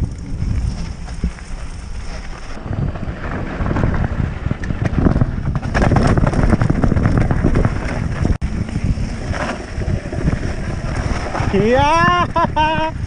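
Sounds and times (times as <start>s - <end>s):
bike tyres rattling on stones: 0.0s - 13.0s
wind buffeting microphone: 0.0s - 13.0s.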